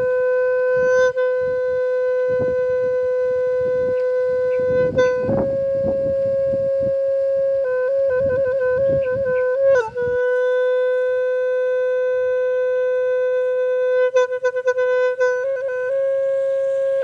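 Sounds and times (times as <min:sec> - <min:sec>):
woodwind melody: 0:00.0 - 0:17.0.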